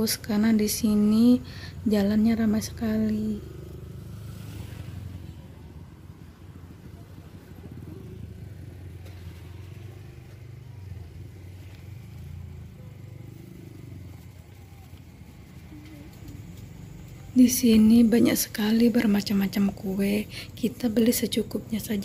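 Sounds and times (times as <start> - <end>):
motorbikes passing: 0.0 - 22.0.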